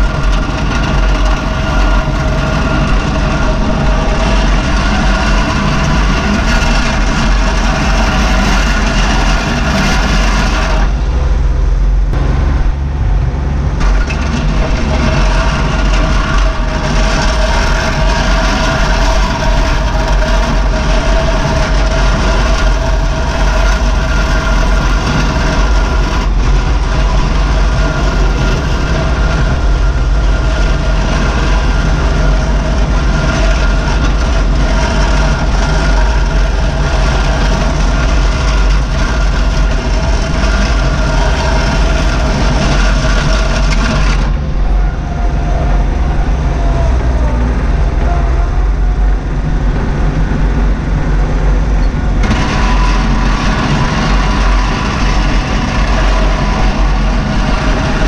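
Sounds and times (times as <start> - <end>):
diesel engine running: 0.0 - 58.0
steady whine: 0.0 - 58.0.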